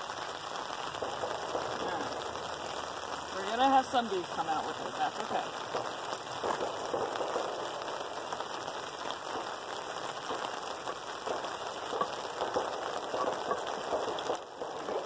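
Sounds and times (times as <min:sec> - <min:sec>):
rain pattering on a canopy: 0:00.0 - 0:15.0.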